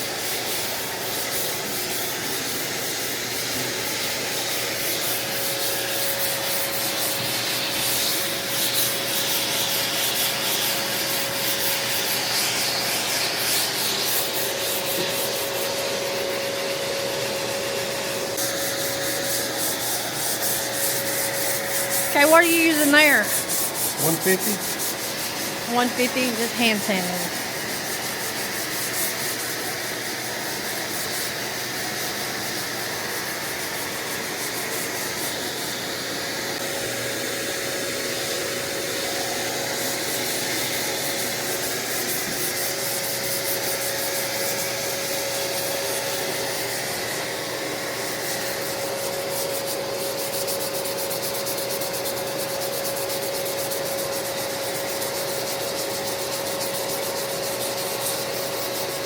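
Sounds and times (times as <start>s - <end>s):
sandpaper rubbing on car fender: 0.0s - 16.2s, 18.3s - 35.8s, 39.6s - 47.3s, 47.9s - 59.0s.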